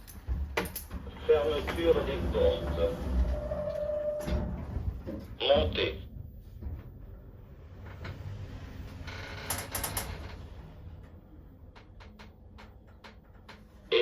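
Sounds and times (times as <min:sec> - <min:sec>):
lift rumbling: 0:00.0 - 0:13.9.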